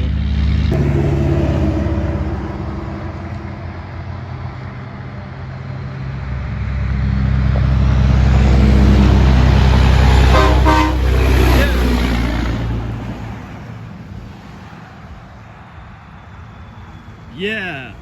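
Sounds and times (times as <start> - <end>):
diesel truck engines passing: 0.0 - 18.0.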